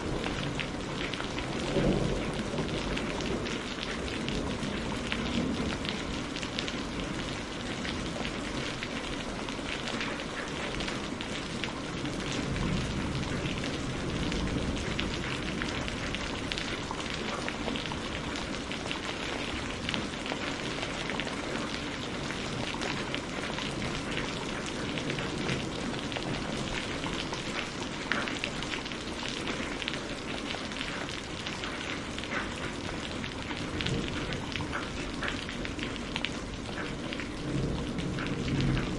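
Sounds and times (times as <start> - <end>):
raindrops ticking on a surface: 0.0 - 38.9
steady rain hiss: 0.0 - 38.9.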